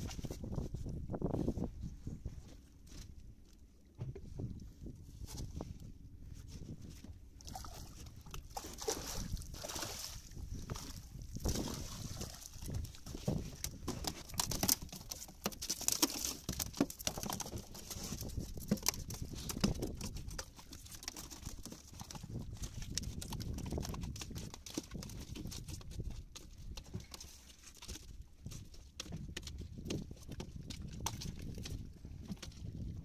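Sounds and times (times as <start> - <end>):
wind: 0.0 - 33.0.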